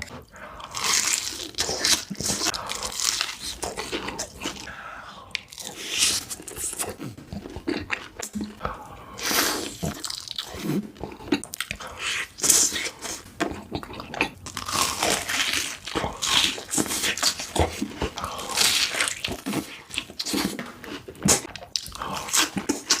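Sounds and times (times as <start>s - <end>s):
crunchy bites and chewing: 0.0s - 4.7s, 5.3s - 23.0s.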